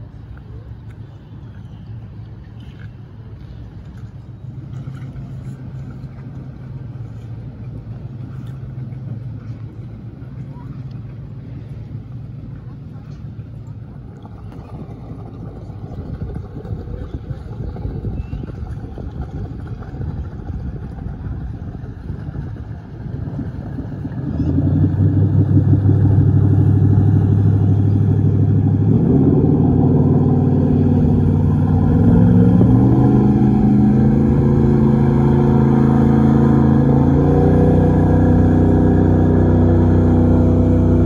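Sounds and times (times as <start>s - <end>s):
jet boat engine: 0.0s - 41.0s.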